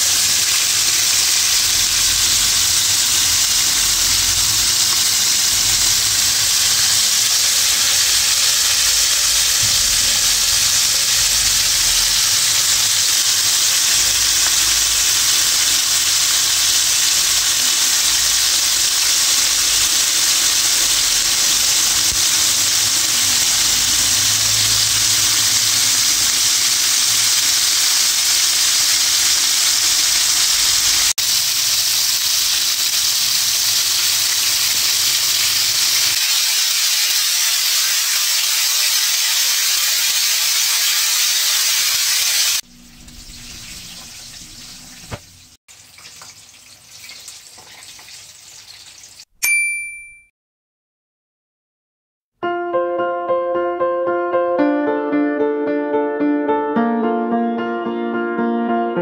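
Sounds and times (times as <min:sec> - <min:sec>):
chicken frying in oil: 0:00.0 - 0:49.3.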